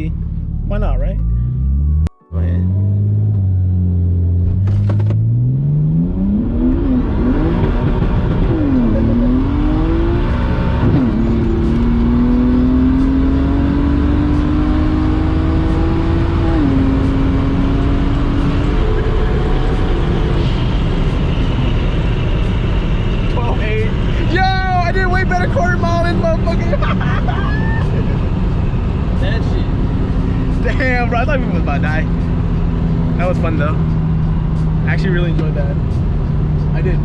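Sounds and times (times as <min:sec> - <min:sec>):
car engine accelerating: 0:00.0 - 0:37.0
road and wind noise: 0:00.0 - 0:37.0.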